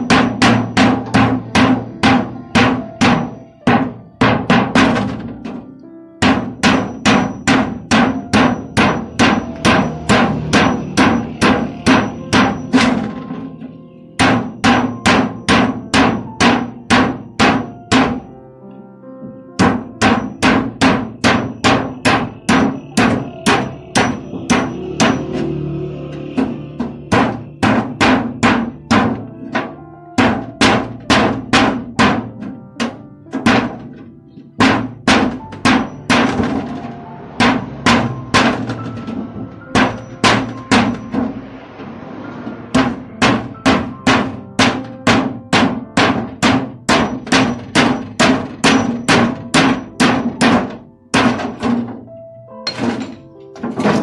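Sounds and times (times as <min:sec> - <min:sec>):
hammer striking metal tin: 0:00.0 - 0:05.6, 0:06.2 - 0:18.3, 0:19.6 - 0:41.4, 0:42.6 - 0:54.0.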